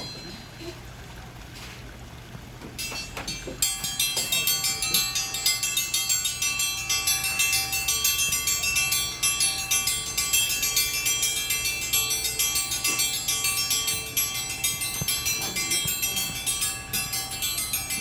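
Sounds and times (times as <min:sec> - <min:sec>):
metal triangle ringing rapidly: 0:02.8 - 0:18.0.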